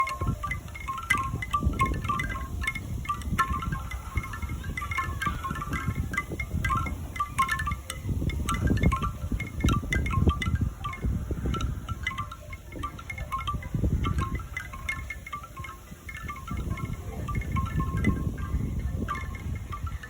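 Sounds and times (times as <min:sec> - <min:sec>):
bamboo wind chime knocking: 0:00.0 - 0:20.0.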